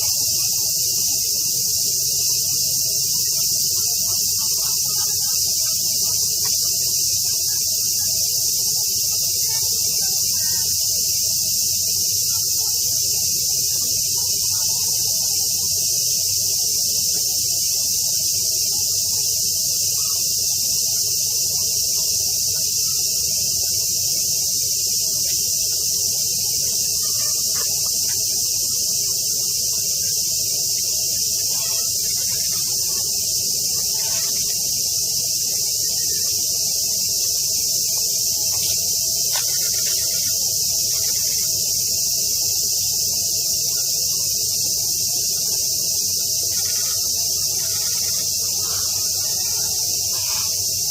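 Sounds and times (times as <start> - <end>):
cicadas buzzing: 0.0 - 50.9.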